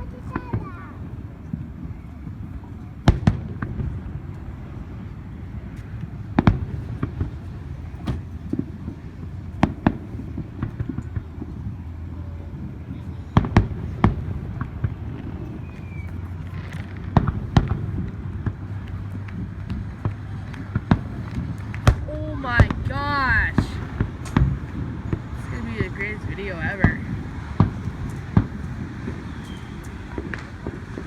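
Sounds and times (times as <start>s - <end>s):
fireworks bangs: 0.0s - 31.0s.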